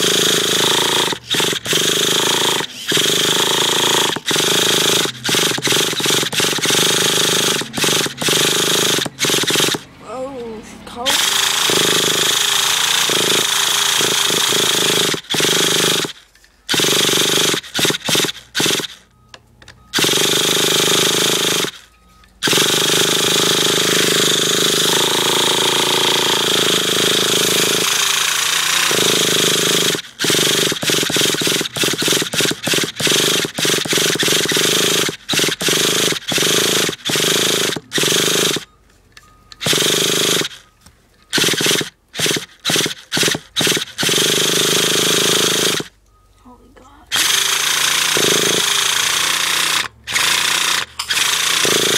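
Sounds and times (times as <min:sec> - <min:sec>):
model engine cranking over: 0:00.0 - 0:09.9, 0:11.1 - 0:19.0, 0:19.9 - 0:38.7, 0:39.6 - 0:40.6, 0:41.3 - 0:45.9, 0:47.1 - 0:51.9.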